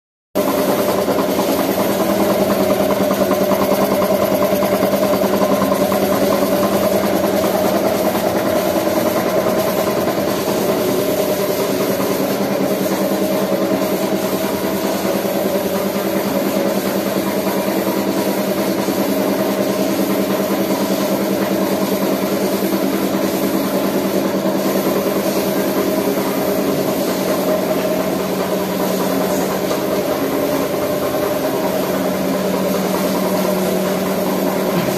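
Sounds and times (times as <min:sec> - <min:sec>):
air compressor running: 0:00.4 - 0:34.9.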